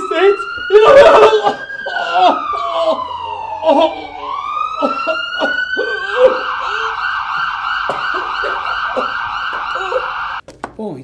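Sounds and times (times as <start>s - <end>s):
emergency vehicle siren: 0.0s - 10.4s.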